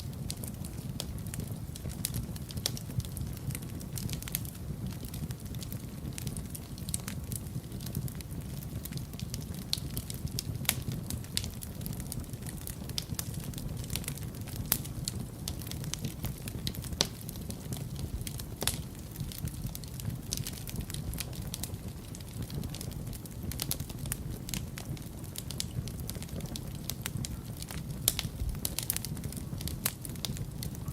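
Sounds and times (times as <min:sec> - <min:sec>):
fire crackling: 0:00.0 - 0:30.9
fire rumbling: 0:00.0 - 0:30.9
sharp pops of fire: 0:00.0 - 0:30.9.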